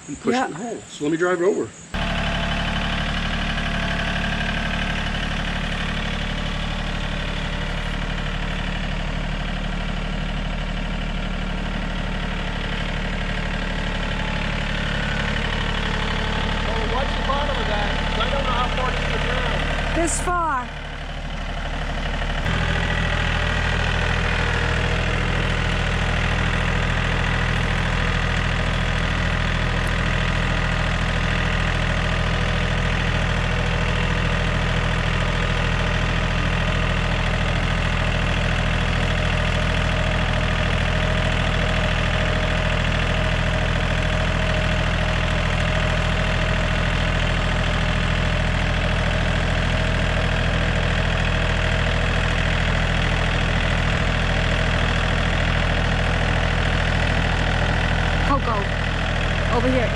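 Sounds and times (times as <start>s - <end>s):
tractor engine running steadily: 1.8s - 59.9s.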